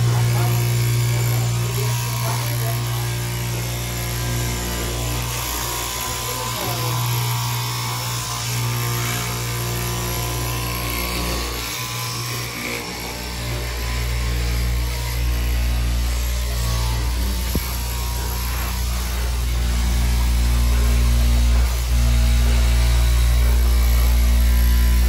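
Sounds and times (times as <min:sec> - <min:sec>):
blade cutting fabric: 0:00.0 - 0:25.0
motor hum: 0:00.0 - 0:25.0.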